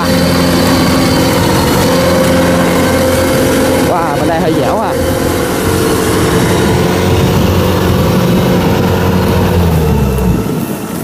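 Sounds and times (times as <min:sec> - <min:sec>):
combine harvester engine running: 0:00.0 - 0:11.0.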